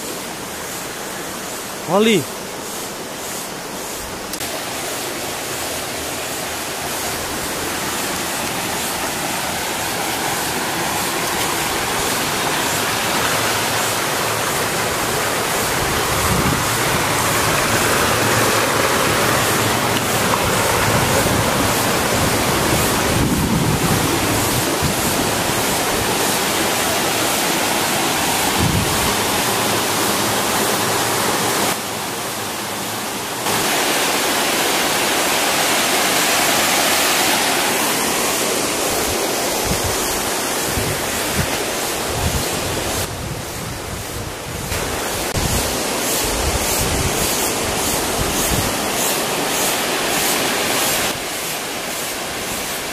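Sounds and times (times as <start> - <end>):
water rushing down rocks: 4.2 - 52.9.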